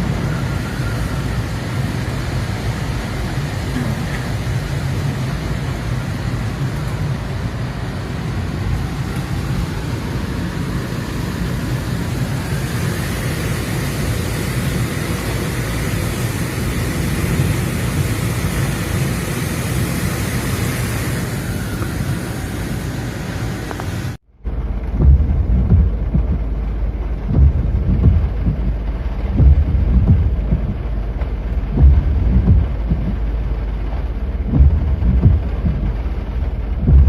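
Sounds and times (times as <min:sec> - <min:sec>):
steady rushing rumbling noise: 0:00.0 - 0:37.0.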